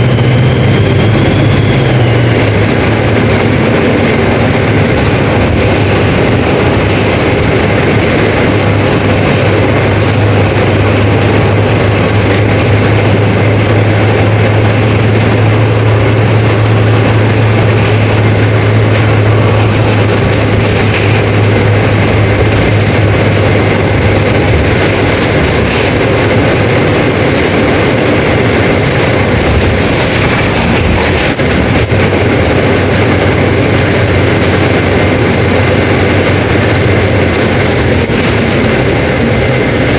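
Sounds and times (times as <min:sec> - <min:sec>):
bus diesel engine drone: 0:00.0 - 0:39.9
road and body noise: 0:00.0 - 0:39.9.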